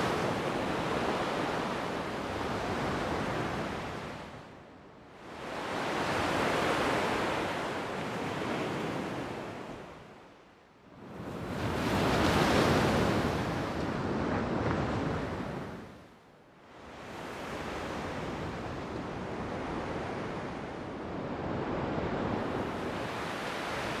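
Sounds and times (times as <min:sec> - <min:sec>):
wind: 0:00.0 - 0:24.0.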